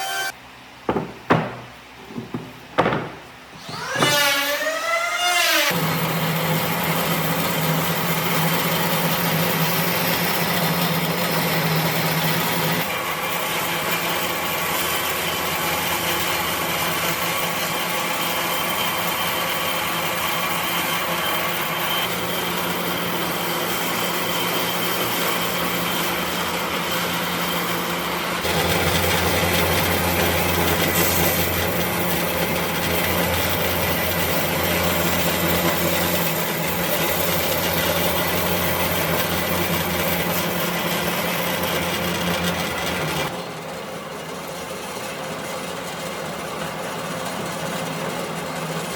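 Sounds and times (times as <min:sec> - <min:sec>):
power tool working wood: 0:00.0 - 0:01.6, 0:02.2 - 0:43.3.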